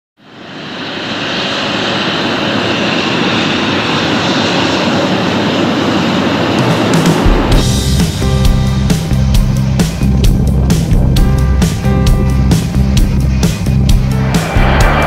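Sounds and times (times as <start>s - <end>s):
jet engines taxiing: 0.2s - 15.0s.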